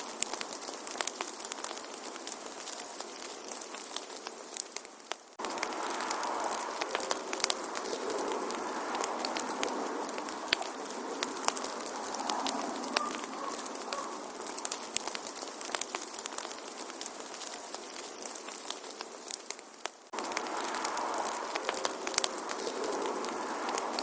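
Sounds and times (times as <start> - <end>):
fire hiss: 0.0 - 24.0
wood fire crackling and popping: 0.0 - 24.0.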